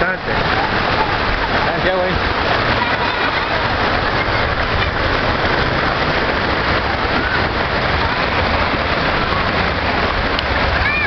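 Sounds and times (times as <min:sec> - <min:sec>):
floodwater rushing down a street: 0:00.0 - 0:11.0.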